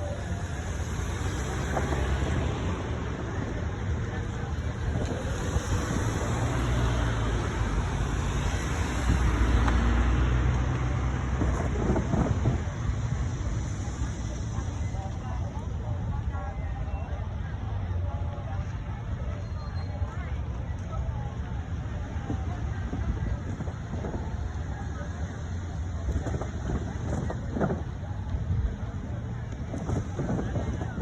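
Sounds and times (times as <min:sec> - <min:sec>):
wheel and rail noise: 0:00.0 - 0:31.0.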